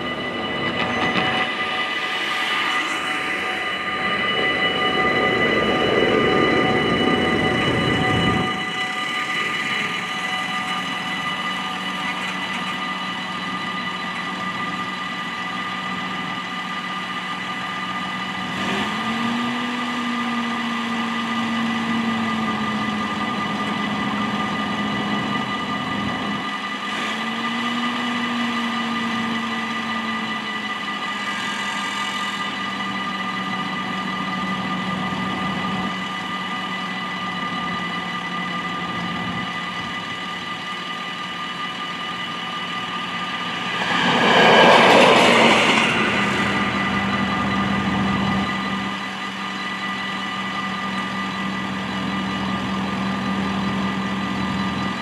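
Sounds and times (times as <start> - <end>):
level crossing bells ringing: 0.0 - 54.7
low engine-like hum: 0.0 - 55.0.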